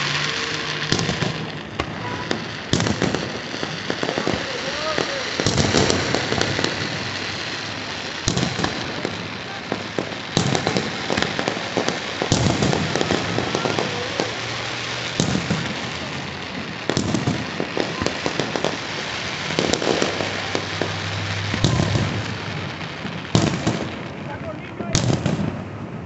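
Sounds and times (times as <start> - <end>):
firework shells booming: 0.0 - 26.0
fireworks crackling: 0.0 - 26.0.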